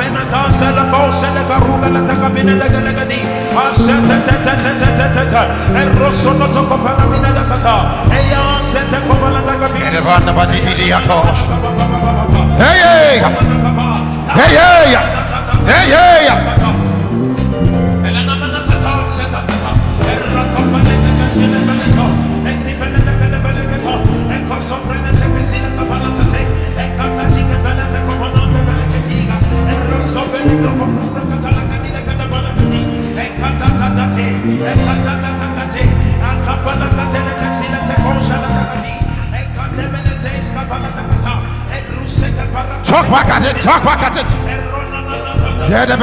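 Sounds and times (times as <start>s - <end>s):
person singing: 0.0s - 46.0s
worship music with keyboard: 0.0s - 46.0s.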